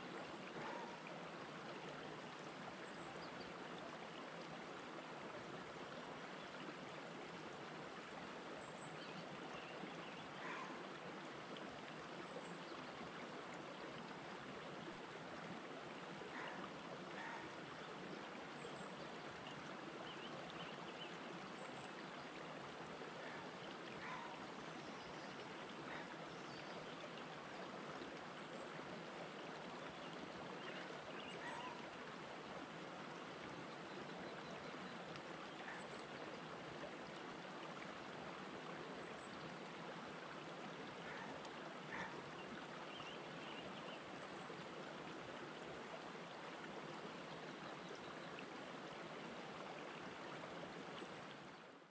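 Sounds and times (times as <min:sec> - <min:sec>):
stream running over stones: 0:00.0 - 0:51.9.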